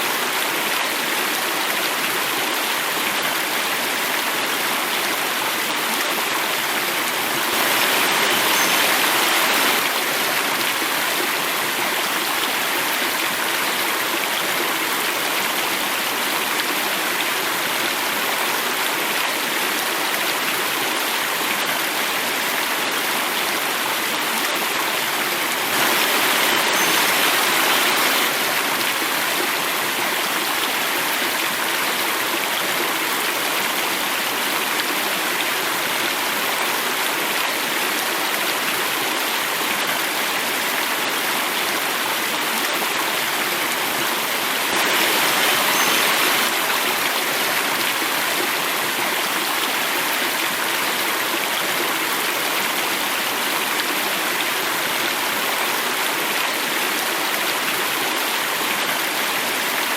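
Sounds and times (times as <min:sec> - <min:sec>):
water rushing over cascade: 0:00.0 - 0:59.9.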